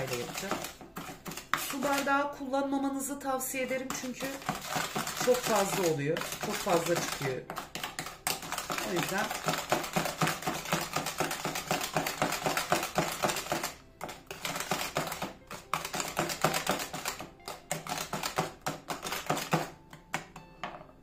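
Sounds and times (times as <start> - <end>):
whisk clattering in plastic bowl: 0.0 - 2.1, 3.6 - 19.8.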